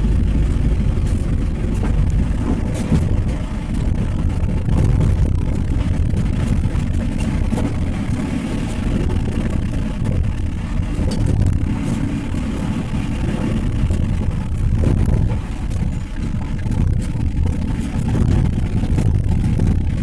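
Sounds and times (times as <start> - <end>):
vehicle driving on unpaved road: 0.0 - 20.0.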